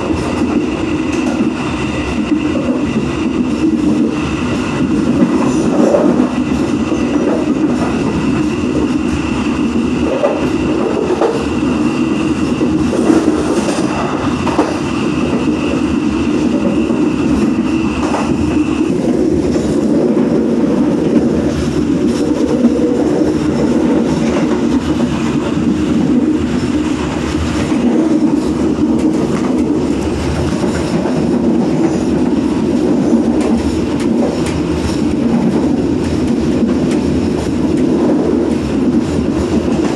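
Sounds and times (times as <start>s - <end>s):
clickety-clack of rails: 0.0s - 39.9s
train wheels rumbling on rail: 0.0s - 39.9s.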